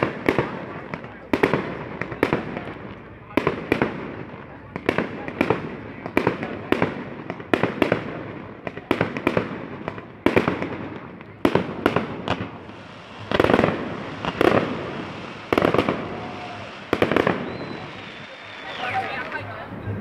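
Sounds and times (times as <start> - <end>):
fireworks bangs with crackling rumble: 0.0 - 20.0.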